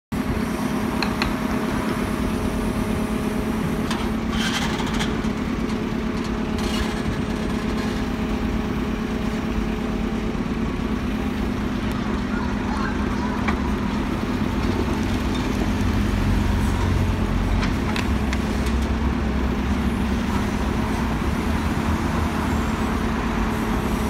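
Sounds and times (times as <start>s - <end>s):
heavy diesel engine running: 0.1s - 24.0s.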